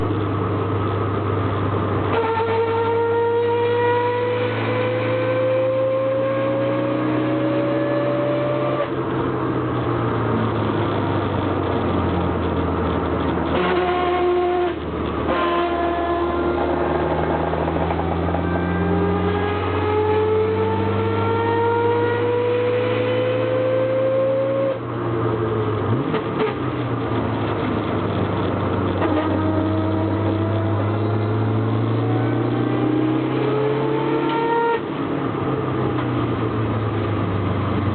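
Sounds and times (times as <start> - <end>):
car differential whine: 0.0 - 37.9.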